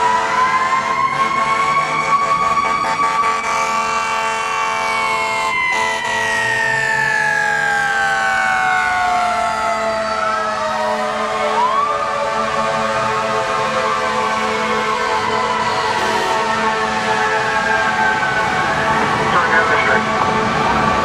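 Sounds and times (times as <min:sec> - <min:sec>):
siren wailing: 0:00.0 - 0:21.0.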